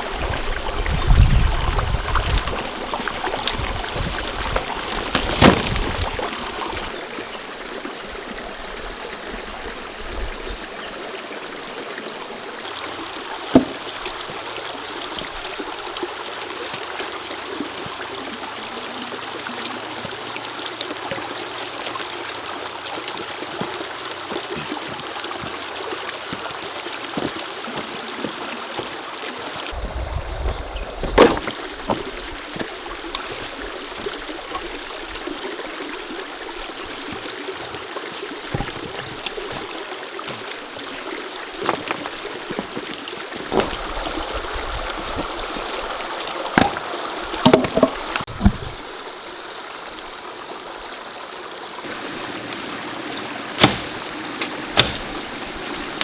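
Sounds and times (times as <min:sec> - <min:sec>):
mountain stream running: 0:00.0 - 0:56.0.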